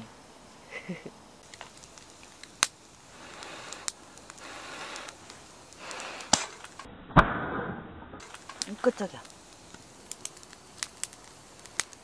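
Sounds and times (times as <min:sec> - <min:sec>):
campfire crackling: 0:00.0 - 0:12.0
loud fire pops: 0:01.4 - 0:12.0.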